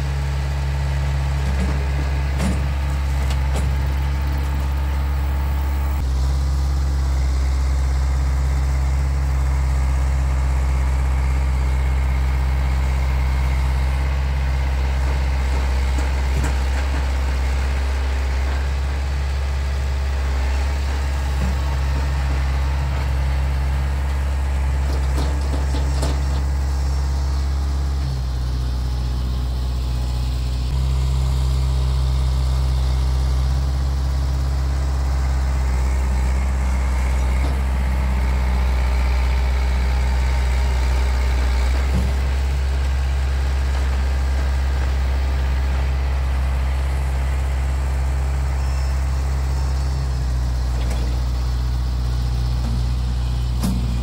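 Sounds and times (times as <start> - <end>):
tractor diesel engine drone: 0.0 - 54.0.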